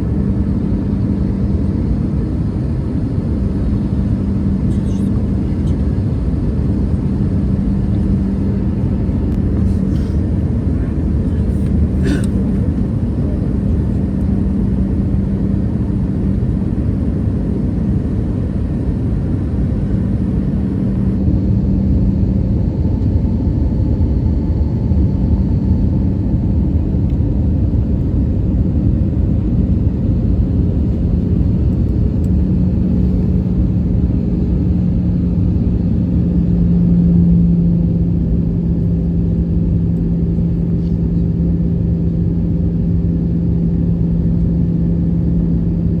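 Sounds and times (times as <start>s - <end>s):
airliner cabin rumble: 0.0s - 46.0s
engine hum: 0.0s - 46.0s.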